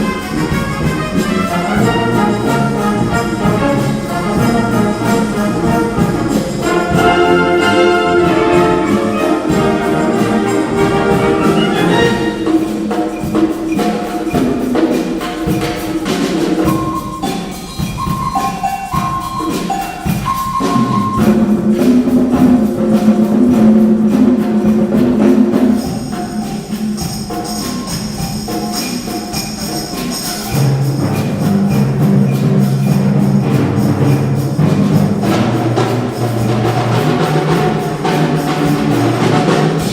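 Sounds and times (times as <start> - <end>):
percussion tapping: 0.0 - 39.9
wind band playing: 0.0 - 39.9.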